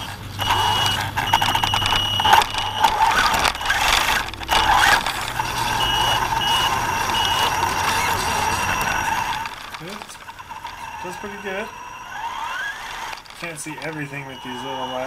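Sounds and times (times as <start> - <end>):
electric motor whining: 0.0 - 15.0
high squeaking chirps: 0.0 - 15.0.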